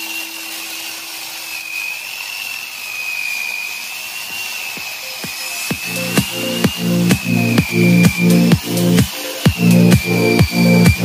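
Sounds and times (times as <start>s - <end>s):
grinder motor whine: 0.0s - 11.0s.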